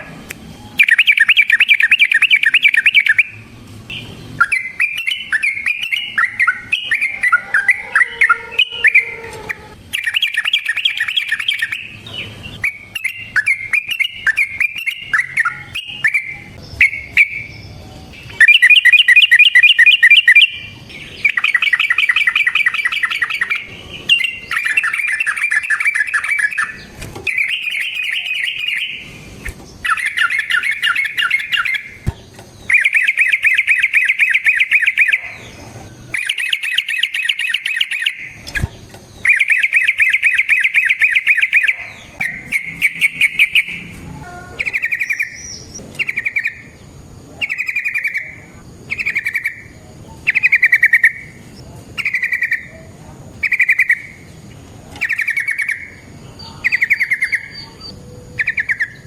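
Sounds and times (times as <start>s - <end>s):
bulbul singing chattering runs: 0.7s - 43.9s, 44.6s - 59.0s.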